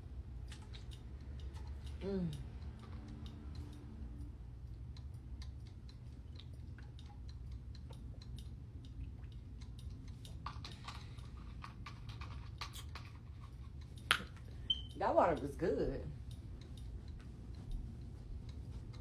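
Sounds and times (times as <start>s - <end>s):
faint small clicks and ticks: 0.0s - 19.0s
steady low hum: 0.0s - 19.0s.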